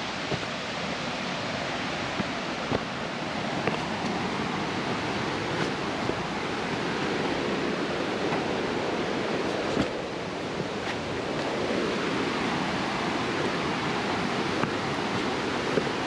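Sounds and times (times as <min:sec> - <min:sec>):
waterfall roar: 0:00.0 - 0:16.0.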